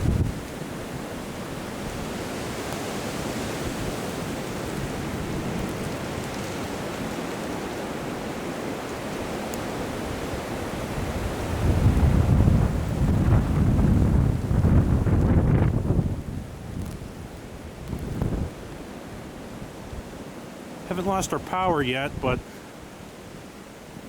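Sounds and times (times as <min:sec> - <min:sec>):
wind gusts rumbling on microphone: 0:00.0 - 0:20.2.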